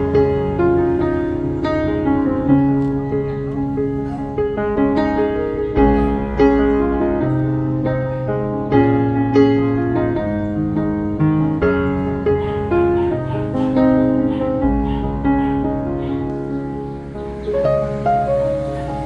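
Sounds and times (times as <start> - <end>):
piano instrumental music: 0.0 - 19.0.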